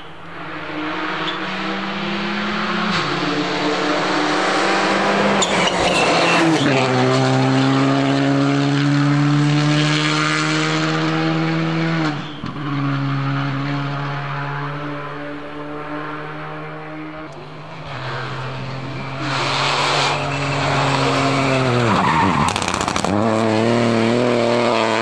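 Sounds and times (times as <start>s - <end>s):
rally car engine at high revs: 0.0s - 25.0s.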